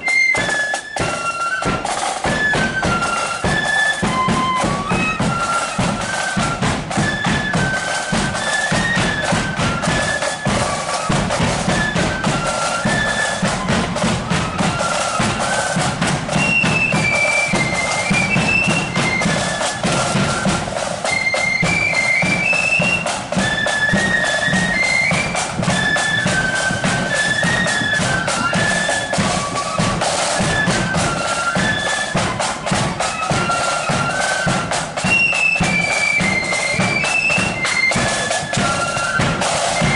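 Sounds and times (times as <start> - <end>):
drums beating steadily: 0.0 - 39.9
flutes playing march melody: 0.0 - 39.9.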